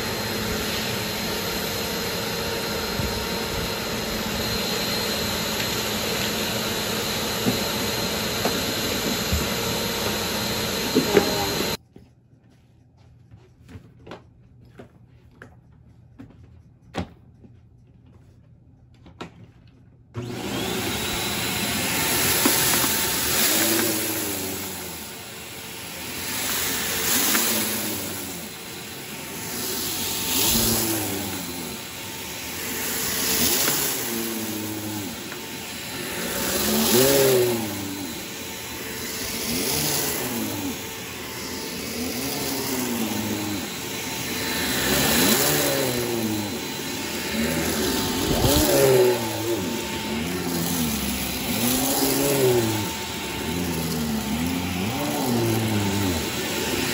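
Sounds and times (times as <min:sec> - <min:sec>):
vacuum cleaner running: 0:00.0 - 0:11.8, 0:20.2 - 0:56.9.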